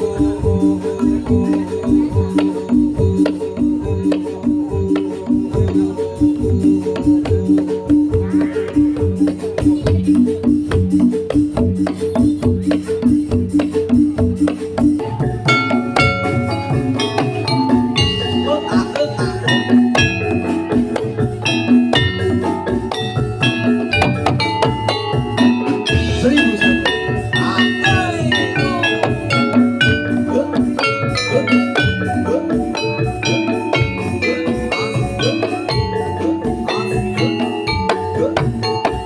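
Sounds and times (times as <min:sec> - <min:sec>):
metal-keyed percussion notes: 0:00.0 - 0:39.0
steady drum beat: 0:00.0 - 0:39.0.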